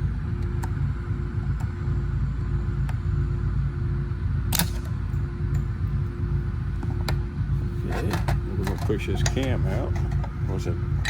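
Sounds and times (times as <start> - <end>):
low shop hum: 0.0 - 11.0.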